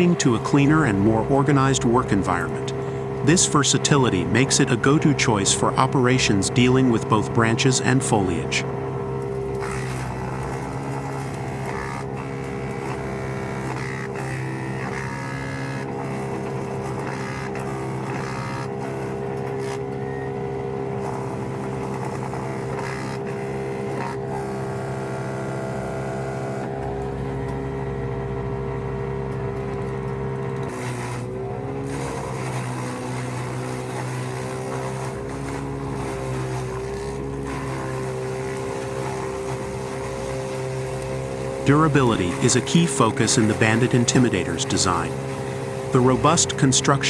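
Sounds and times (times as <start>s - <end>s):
wood chipper engine running: 0.0s - 47.0s.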